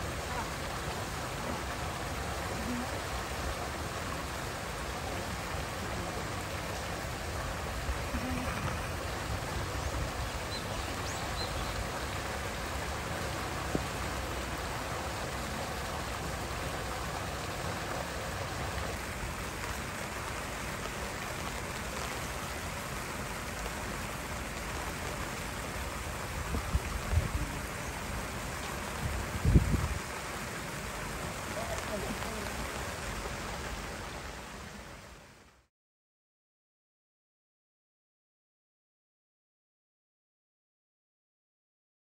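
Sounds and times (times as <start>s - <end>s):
running water hissing: 0.0s - 35.1s.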